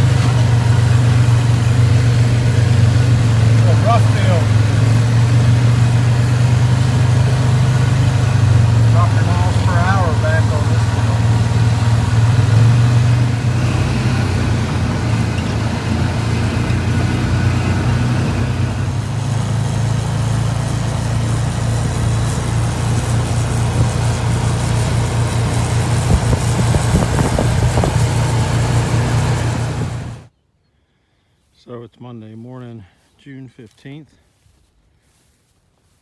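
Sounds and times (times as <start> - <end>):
tractor engine running: 0.0 - 30.3.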